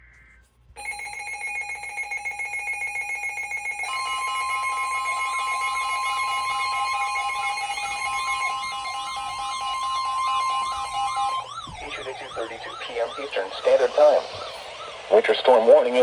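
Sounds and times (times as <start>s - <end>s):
steady high tone: 0.8s - 16.0s
warbling siren-like tone: 1.7s - 16.0s.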